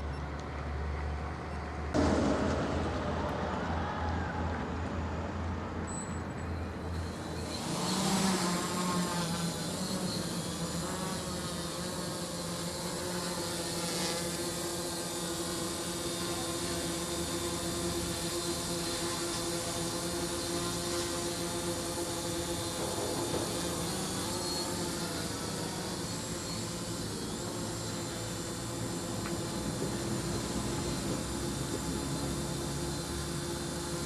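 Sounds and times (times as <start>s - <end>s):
drone motors humming: 0.0s - 34.0s.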